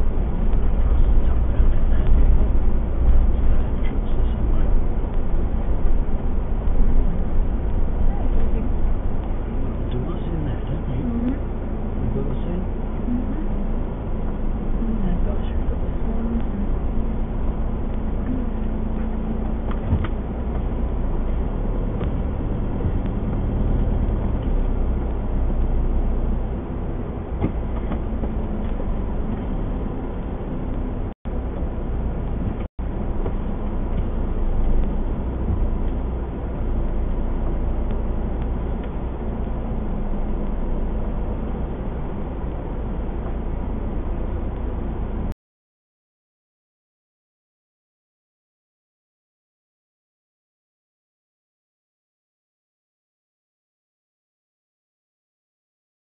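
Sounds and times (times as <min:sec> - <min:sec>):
motorhome engine rumbling: 0:00.0 - 0:45.4.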